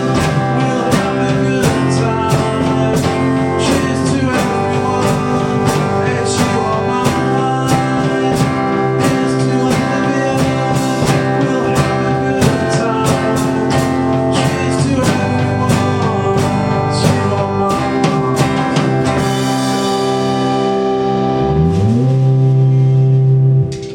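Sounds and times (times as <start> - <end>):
bass guitar: 0.0 - 23.9
drum kit beat: 0.0 - 23.9
guitar chords: 0.0 - 23.9.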